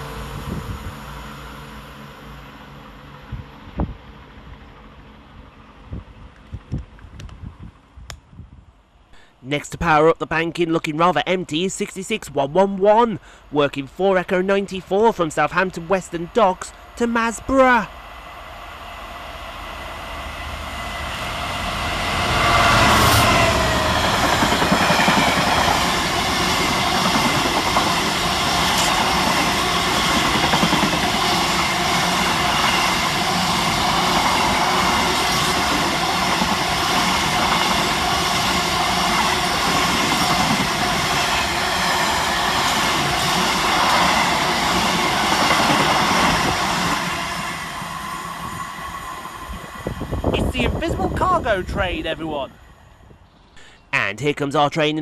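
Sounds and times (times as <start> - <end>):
diesel locomotive engine passing: 0.0 - 8.1, 13.3 - 53.6.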